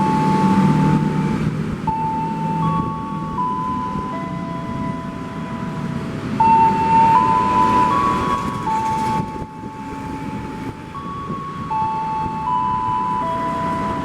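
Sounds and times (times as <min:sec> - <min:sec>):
electronic chime melody: 0:00.0 - 0:14.0.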